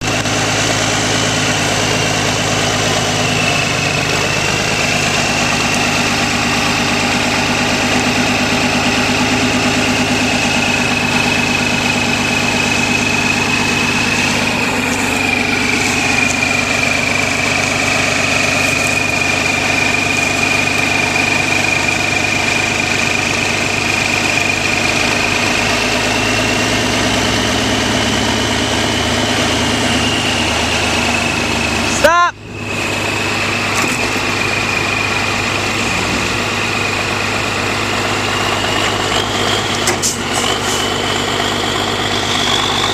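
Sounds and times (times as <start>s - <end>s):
heavy vehicle engine idling: 0.0s - 42.9s.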